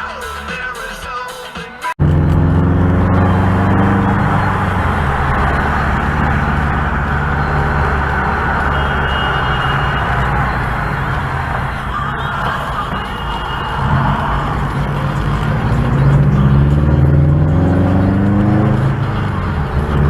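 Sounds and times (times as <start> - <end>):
road noise: 0.0 - 20.0
vehicle engine drone: 2.0 - 20.0.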